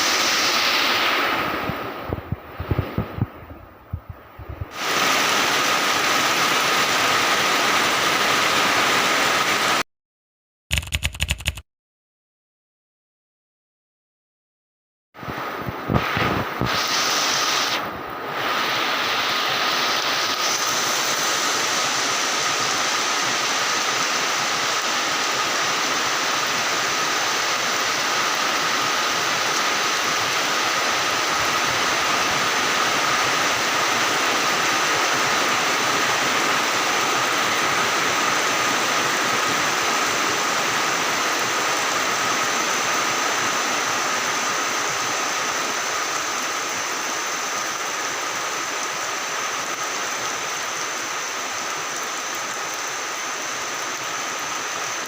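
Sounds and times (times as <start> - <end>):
heavy rain pouring: 0.0 - 9.8, 15.2 - 55.0.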